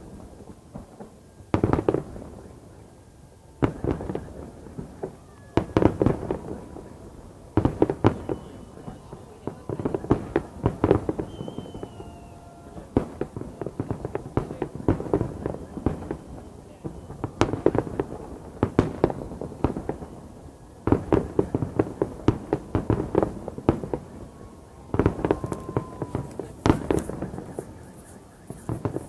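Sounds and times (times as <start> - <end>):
fireworks crackling: 0.0 - 29.0
fireworks sharp bangs: 0.0 - 29.0.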